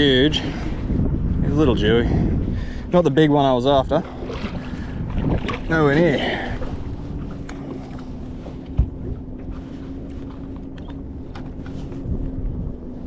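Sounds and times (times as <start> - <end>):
low rumble: 0.0 - 13.0
steady low hum: 0.0 - 13.0.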